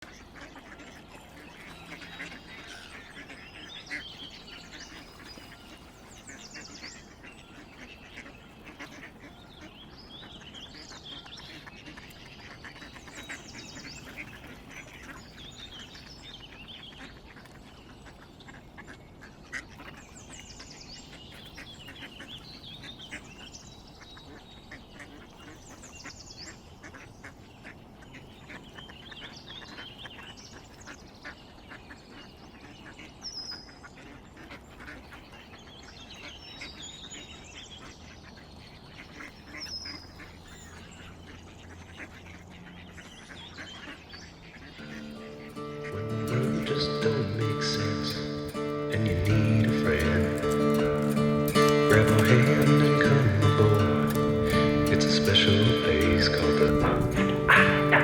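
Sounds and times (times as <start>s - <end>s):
birds chirping and trilling: 0.0s - 58.0s
ducks quacking: 0.0s - 58.0s.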